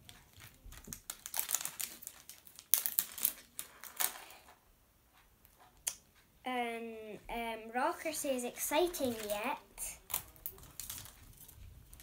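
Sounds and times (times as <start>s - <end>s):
wrapping crinkling and crackling: 0.0s - 6.0s, 8.1s - 12.0s.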